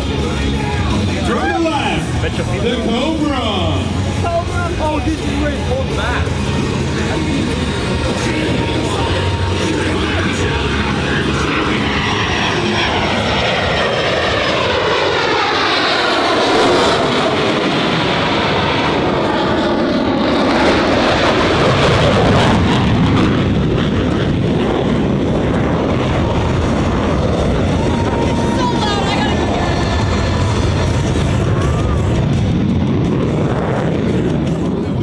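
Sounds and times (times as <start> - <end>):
jet engines roaring in a pass: 0.0 - 35.0.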